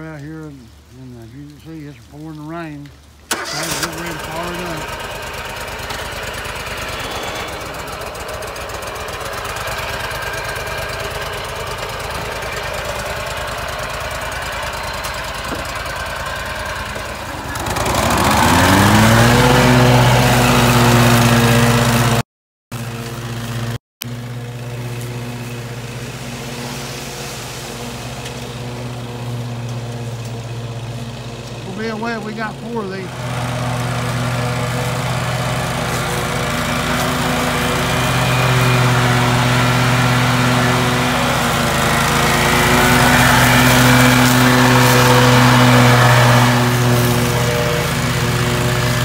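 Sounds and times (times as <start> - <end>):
mower engine running: 0.7 - 49.0.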